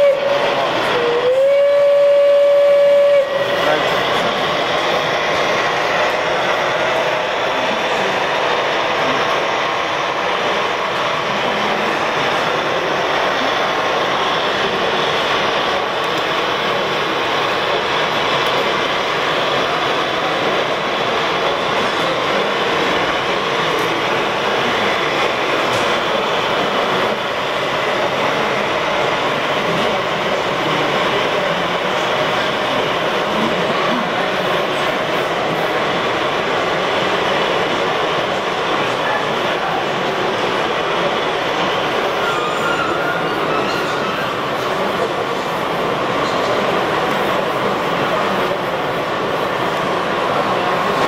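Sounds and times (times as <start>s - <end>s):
model train rolling on metal track: 0.0s - 51.0s.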